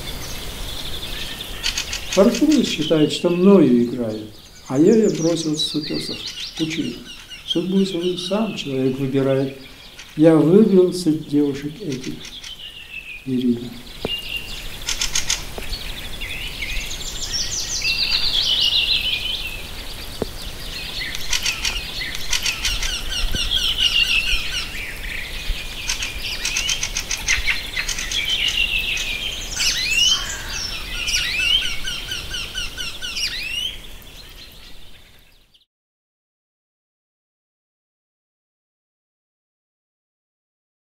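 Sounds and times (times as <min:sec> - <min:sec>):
songbirds singing and chirping: 0:00.0 - 0:35.7.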